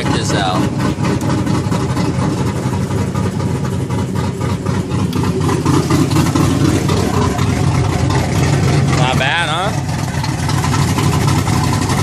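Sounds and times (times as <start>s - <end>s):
car engine idling with choppy lope: 0.0s - 12.0s.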